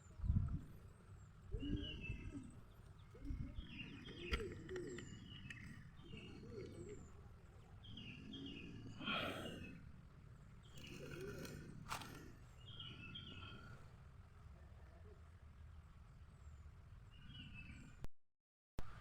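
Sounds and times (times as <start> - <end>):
small birds chirping: 0.0 - 14.0, 16.0 - 18.0.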